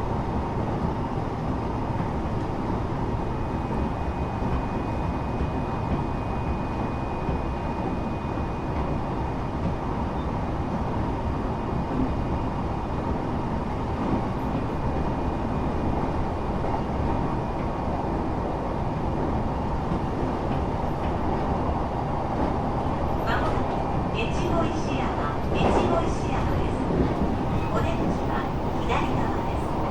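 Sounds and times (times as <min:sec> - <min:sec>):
train running noise: 0:00.0 - 0:29.9.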